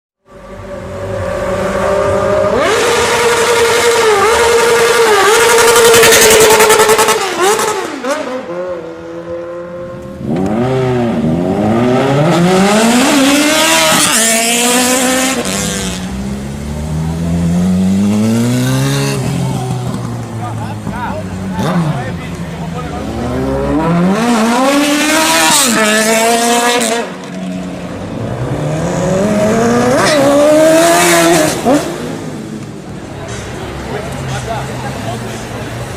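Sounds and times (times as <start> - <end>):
motorcycle engines revving: 0.3 - 35.9.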